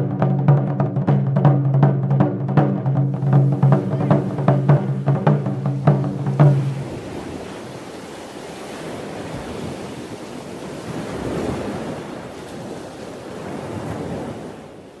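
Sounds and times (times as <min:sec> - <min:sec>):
ocean surf breaking on rocks: 0:00.0 - 0:15.0.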